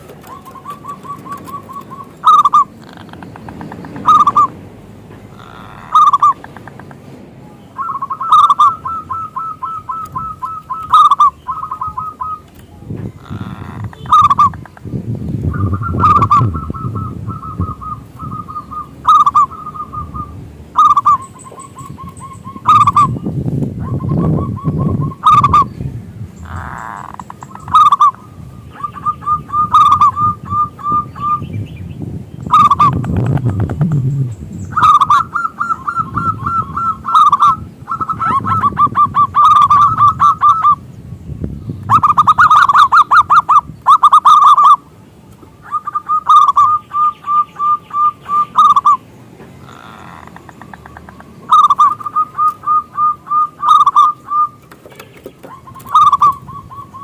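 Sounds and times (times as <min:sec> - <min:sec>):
dove cooing: 0:00.0 - 0:04.6, 0:05.3 - 0:06.9, 0:07.8 - 0:25.7, 0:26.4 - 0:31.5, 0:32.4 - 0:40.8, 0:41.9 - 0:44.9, 0:45.6 - 0:49.0, 0:49.6 - 0:57.0.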